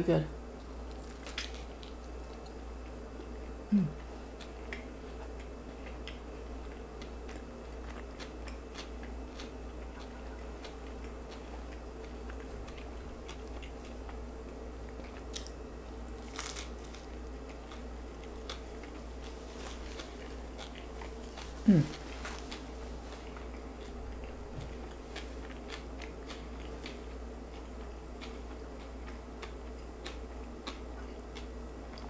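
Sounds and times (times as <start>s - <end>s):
person chewing close up: 0.6s - 32.0s.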